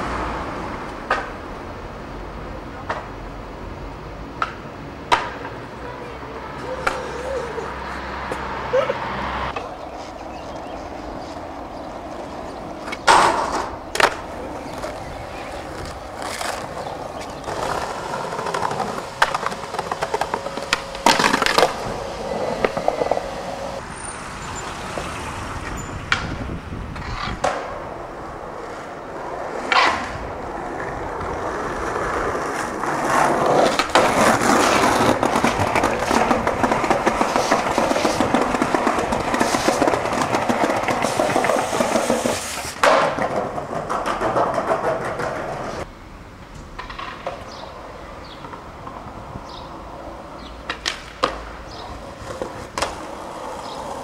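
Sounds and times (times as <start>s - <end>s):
skateboard wheels rolling: 0.0s - 54.0s
skateboard clacking: 0.6s - 1.5s, 2.7s - 3.2s, 4.3s - 7.7s, 11.4s - 23.8s, 24.9s - 45.9s, 46.5s - 54.0s.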